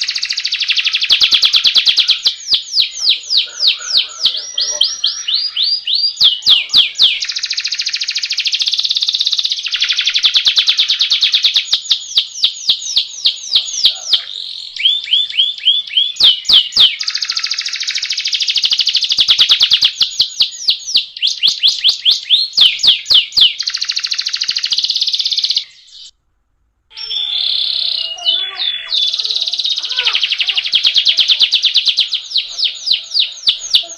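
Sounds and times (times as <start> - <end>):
canary singing trills: 0.0 - 26.2, 26.9 - 33.9.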